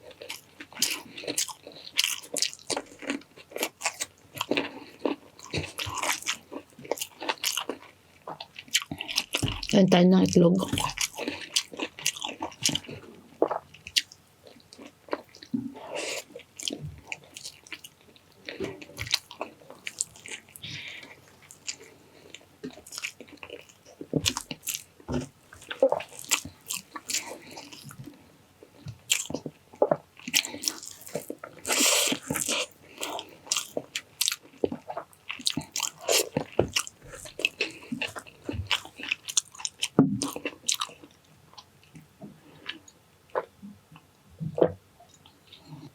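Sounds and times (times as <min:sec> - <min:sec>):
person chewing food: 0:00.0 - 0:09.8, 0:10.6 - 0:43.6.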